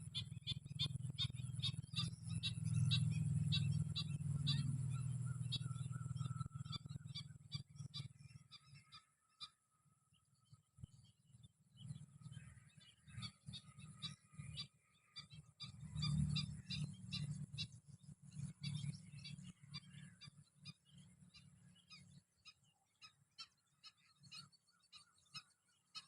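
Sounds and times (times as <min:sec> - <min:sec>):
flock of birds chirping: 0:00.0 - 0:26.0.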